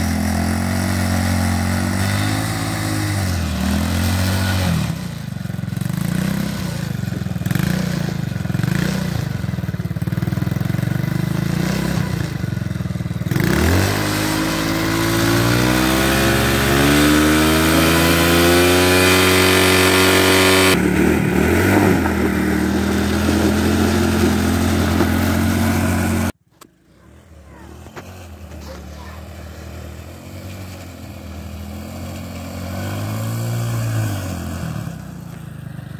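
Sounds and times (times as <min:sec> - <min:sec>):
quad bike engine revving: 0:00.0 - 0:26.4, 0:27.1 - 0:35.9
wheels spinning in snow: 0:00.0 - 0:35.9.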